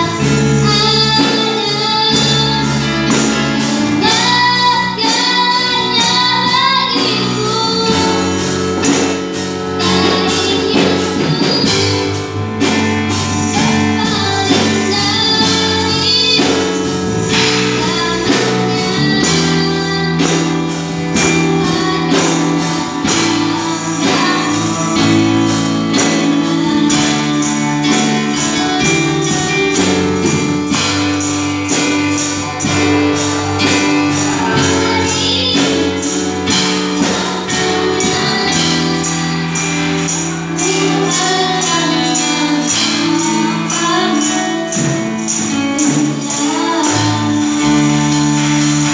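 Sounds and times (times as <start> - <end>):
band playing: 0.0 - 48.9
guitar: 0.0 - 48.9
person singing: 0.0 - 48.9
tambourine beat: 0.0 - 48.9.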